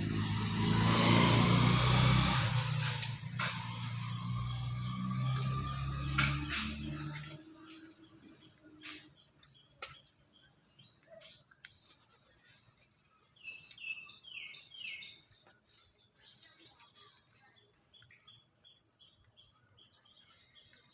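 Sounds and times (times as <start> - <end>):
small birds chirping: 1.8 - 20.9.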